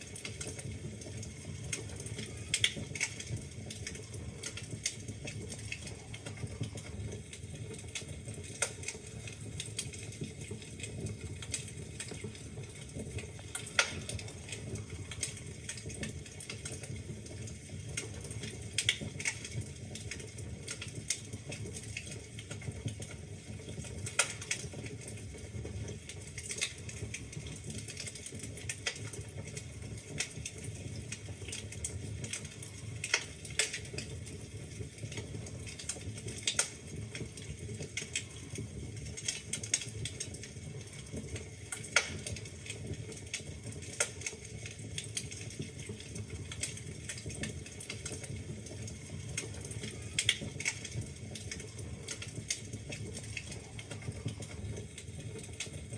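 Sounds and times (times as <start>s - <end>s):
wood fire burning: 0.0s - 55.9s.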